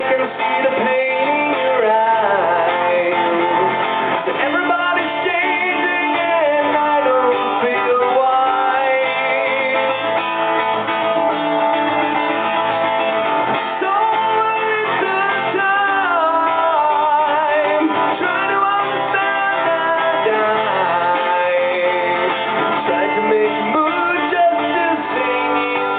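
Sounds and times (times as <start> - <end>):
person singing: 0.0 - 10.8, 13.5 - 25.9
guitar accompaniment: 0.0 - 25.9.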